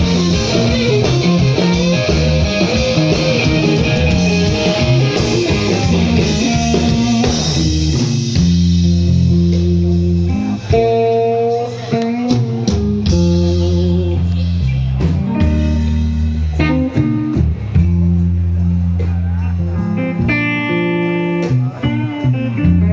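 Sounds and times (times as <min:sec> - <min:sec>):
bass notes: 0:00.0 - 0:22.9
electric guitar melody: 0:00.0 - 0:22.9
steady drum beat: 0:00.0 - 0:22.9.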